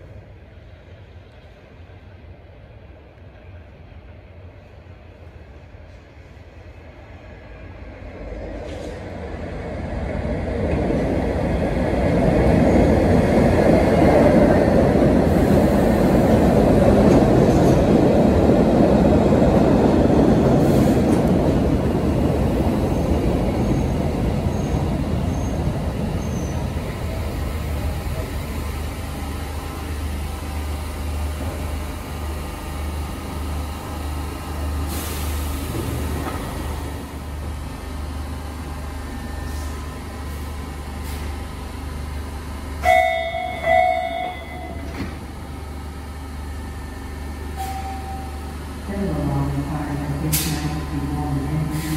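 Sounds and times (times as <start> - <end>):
standing train low hum: 0.0 - 51.9
subway train pulling in: 0.0 - 51.9.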